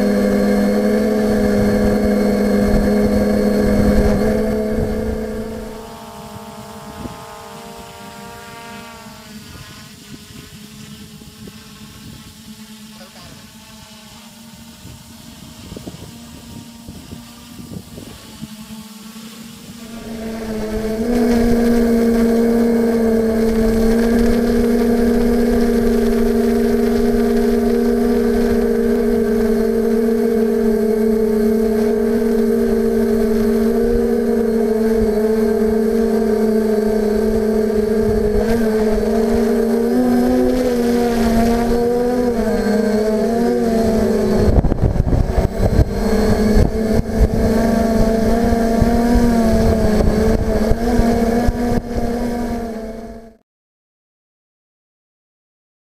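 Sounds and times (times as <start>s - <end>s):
drone propellers humming: 0.0s - 53.4s
wind rumbling on microphone: 0.0s - 53.4s.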